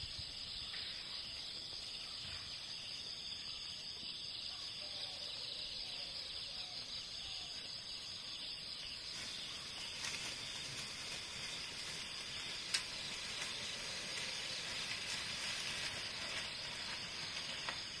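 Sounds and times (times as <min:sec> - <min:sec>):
forest insects droning: 0:00.0 - 0:18.0.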